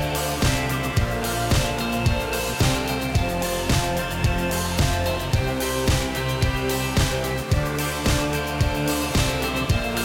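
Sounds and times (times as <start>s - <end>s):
upbeat music with drum beat: 0.0s - 10.0s.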